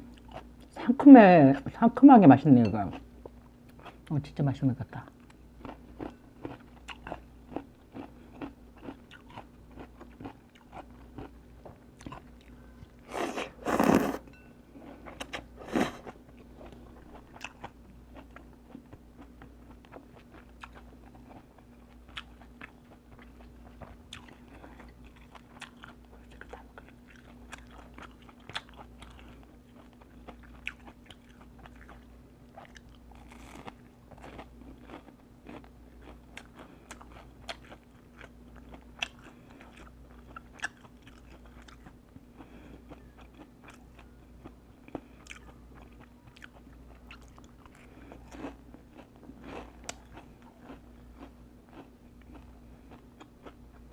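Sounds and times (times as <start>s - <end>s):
person chewing crunchy food: 0.0s - 0.7s, 5.2s - 53.9s
low steady hum: 0.0s - 53.9s.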